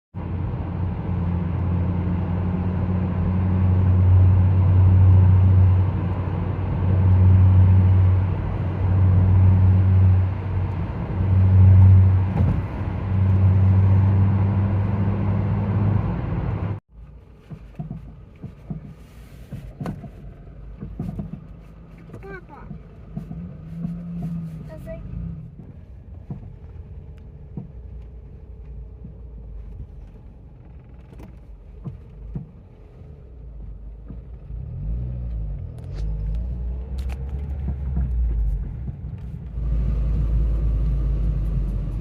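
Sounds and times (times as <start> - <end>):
car engine droning hum: 0.2 - 42.0.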